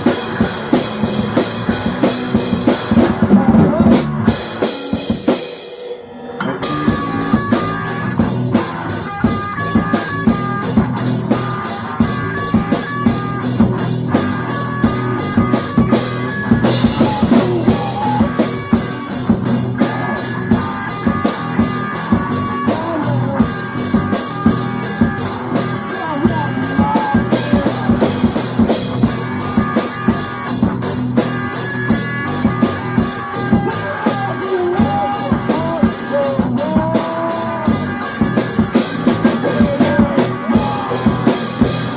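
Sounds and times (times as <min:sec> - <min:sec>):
drum kit beat: 0:00.0 - 0:41.9
held guitar notes: 0:06.0 - 0:41.9.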